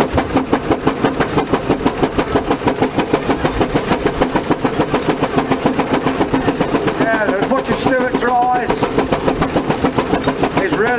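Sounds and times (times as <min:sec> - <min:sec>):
steam engine exhaust barking: 0:00.0 - 0:10.9.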